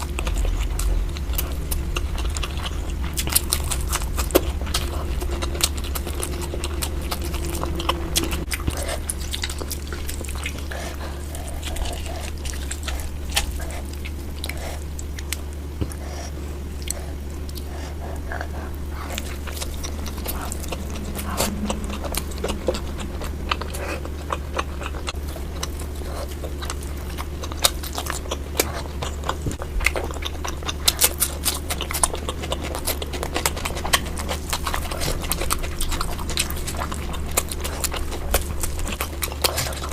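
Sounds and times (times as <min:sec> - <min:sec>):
chewing and biting meat: 0:00.0 - 0:39.9
low hum: 0:00.0 - 0:39.9.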